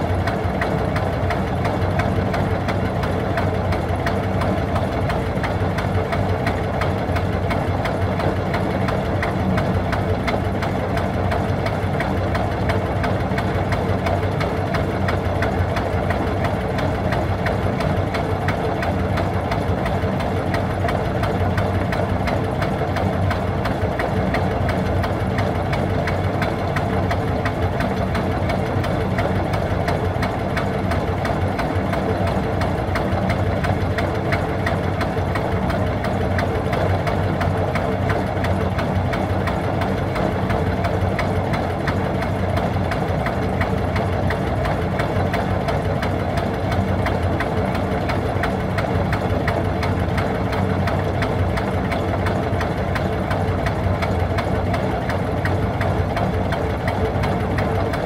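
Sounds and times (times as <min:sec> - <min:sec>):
marine diesel engine knocking: 0:00.0 - 0:58.0.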